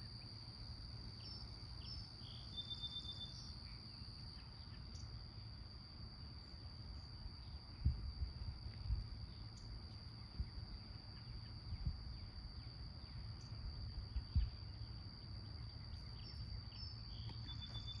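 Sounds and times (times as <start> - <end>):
high-pitched insect trill: 0.0 - 18.0.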